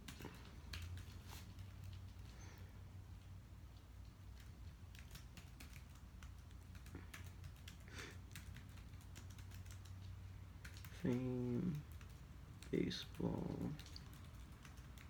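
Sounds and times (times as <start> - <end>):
keyboard typing: 0.0 - 2.5, 3.7 - 15.0
low steady hum: 0.0 - 15.0.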